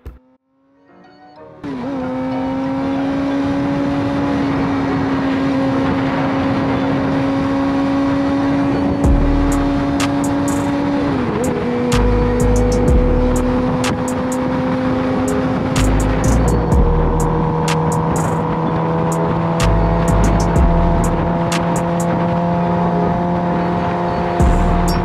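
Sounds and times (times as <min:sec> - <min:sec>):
motorcycle engine cruising: 0:01.6 - 0:25.0.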